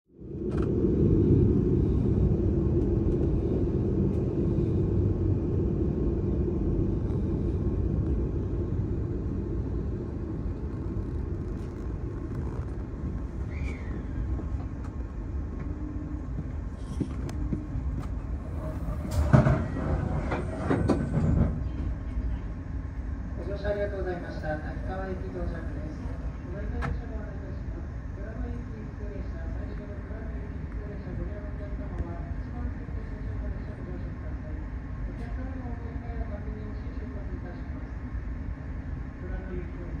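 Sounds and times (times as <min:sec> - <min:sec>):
diesel railcar rumbling: 0:00.2 - 0:40.0.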